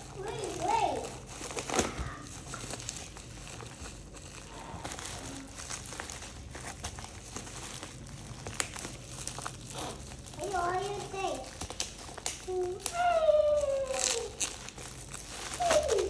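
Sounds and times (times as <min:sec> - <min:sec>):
plastic packaging crinkling: 0:00.0 - 0:16.0
small clicks and crackles: 0:00.0 - 0:16.0.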